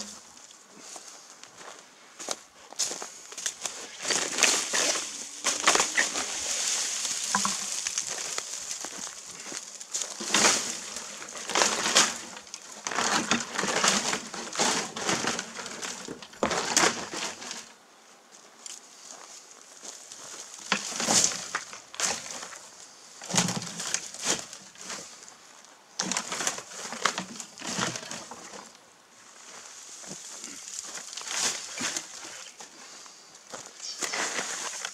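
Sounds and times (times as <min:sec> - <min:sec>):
dry leaves and twigs crunching: 0:00.0 - 0:34.9.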